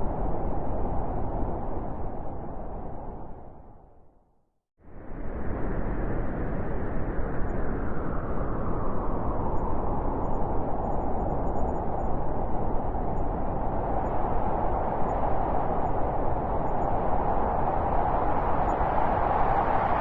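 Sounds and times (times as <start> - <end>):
blizzard wind rushing: 0.0 - 3.9, 4.8 - 20.0.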